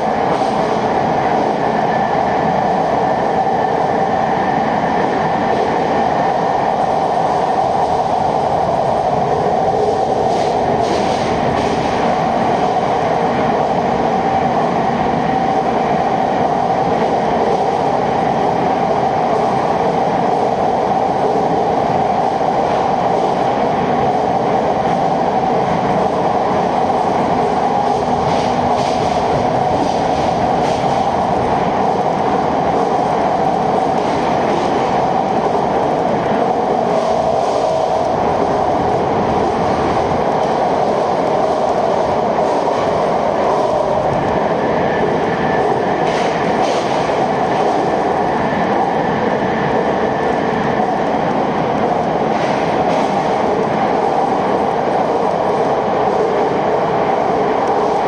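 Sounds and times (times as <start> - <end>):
train rumbling in a tunnel: 0.0 - 58.0.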